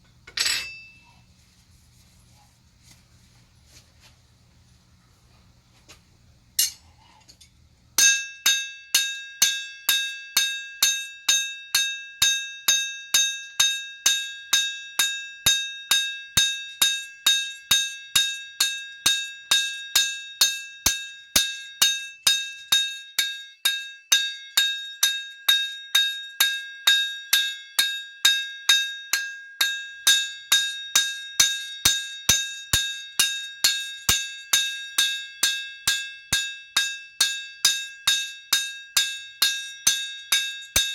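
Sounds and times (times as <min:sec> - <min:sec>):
hammer striking metal on anvil: 0:00.3 - 0:01.1, 0:06.6 - 0:06.9, 0:08.0 - 0:40.9.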